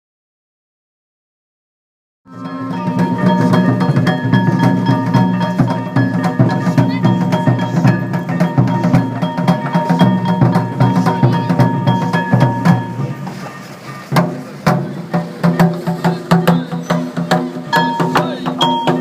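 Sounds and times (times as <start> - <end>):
metal gongs clanging: 2.3 - 19.0
taiko drums: 2.3 - 19.0.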